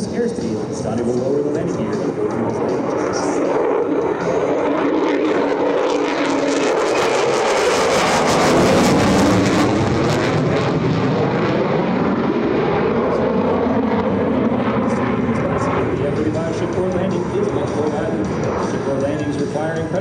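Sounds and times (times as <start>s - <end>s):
jet engine roaring: 0.0s - 20.0s.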